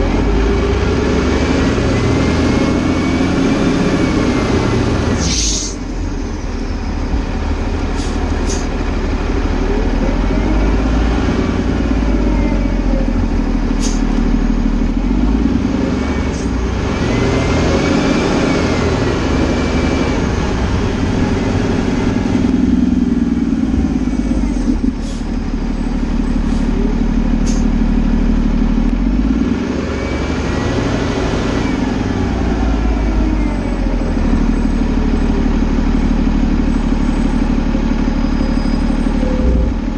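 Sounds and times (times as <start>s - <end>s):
fire engine driving slowly: 0.0s - 39.9s.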